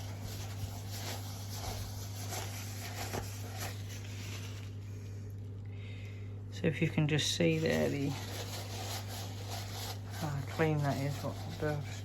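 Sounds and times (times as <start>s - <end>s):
rubbing strokes in cylinder: 0.0s - 4.9s, 7.0s - 12.0s.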